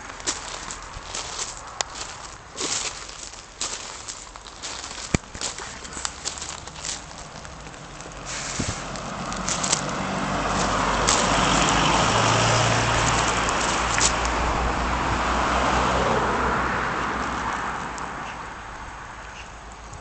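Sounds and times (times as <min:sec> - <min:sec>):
vehicle passing: 0:00.0 - 0:19.9.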